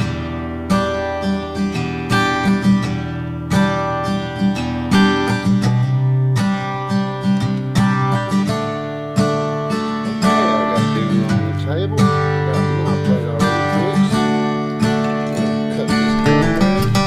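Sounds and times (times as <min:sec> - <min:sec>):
country acoustic guitar music: 0:00.0 - 0:17.0.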